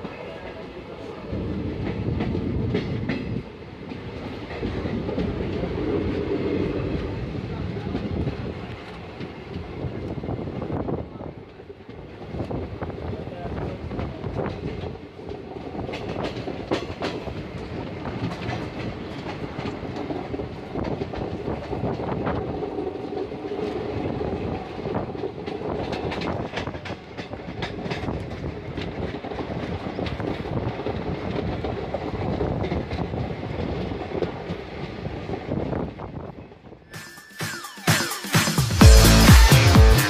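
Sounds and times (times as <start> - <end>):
wheels clacking over rail joints: 0.0 - 10.3, 13.6 - 36.6
train rumble inside coach: 0.0 - 36.9.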